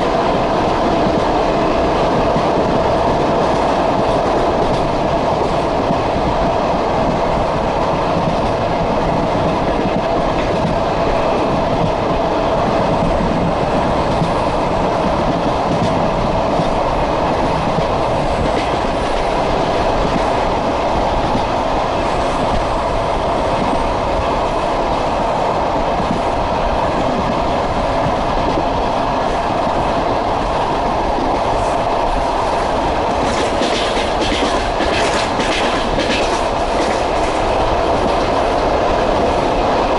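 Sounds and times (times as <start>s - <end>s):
train wheels clattering: 0.0s - 24.2s, 25.8s - 39.9s
train drone: 0.0s - 39.9s.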